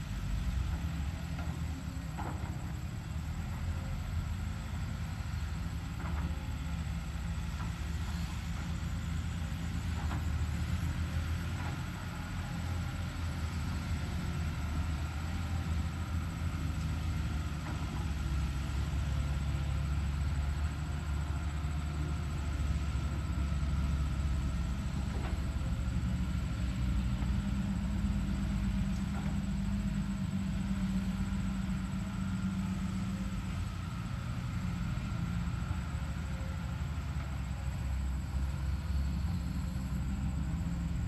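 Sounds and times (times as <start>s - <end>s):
excavator diesel engine rumbling: 0.0s - 41.0s.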